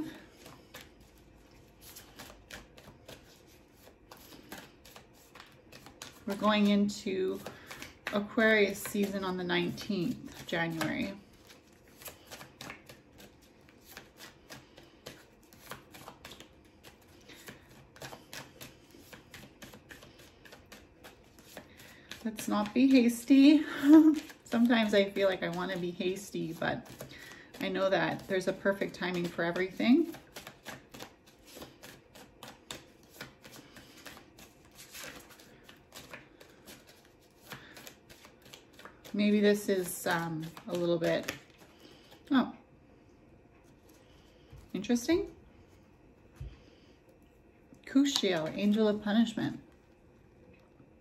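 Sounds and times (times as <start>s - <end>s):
cards being shuffled: 0.1s - 42.3s.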